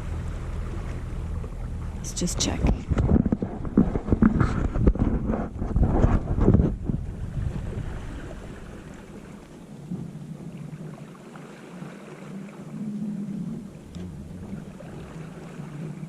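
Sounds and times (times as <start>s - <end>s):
boat engine humming: 0.0s - 16.0s
wind: 0.0s - 16.0s.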